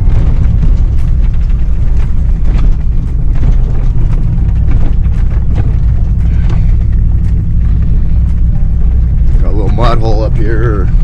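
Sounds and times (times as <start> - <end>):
knocks and rattles from bumps: 0.0 - 10.3
truck engine rumble: 0.0 - 11.0.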